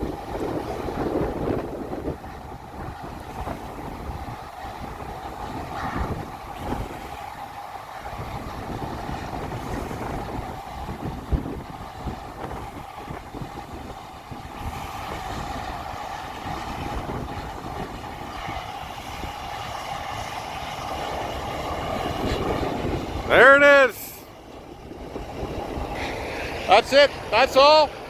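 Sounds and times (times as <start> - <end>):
machinery engine drone: 0.0 - 28.0.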